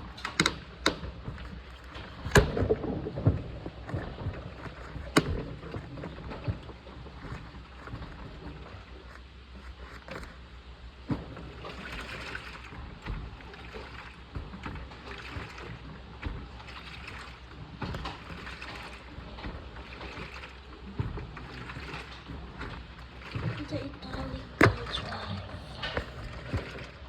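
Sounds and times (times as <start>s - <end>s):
washing machine motor hum: 0.0s - 27.0s
water sloshing in drum: 0.0s - 27.0s.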